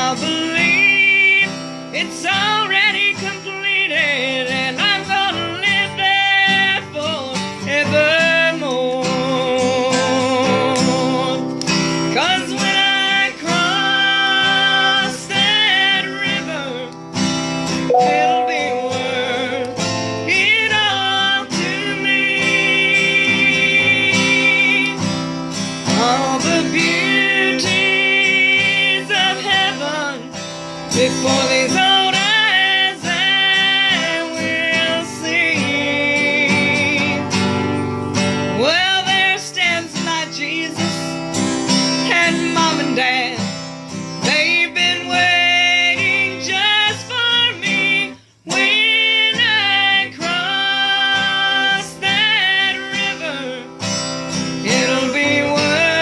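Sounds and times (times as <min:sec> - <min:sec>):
country gospel song with guitar: 0:00.0 - 0:56.0.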